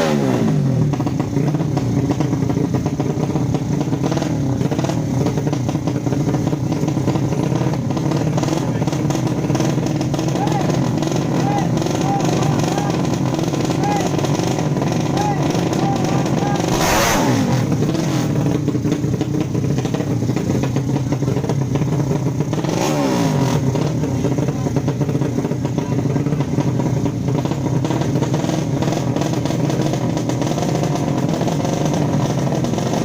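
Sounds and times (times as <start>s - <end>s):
motorcycle engines running loud: 0.0s - 33.0s.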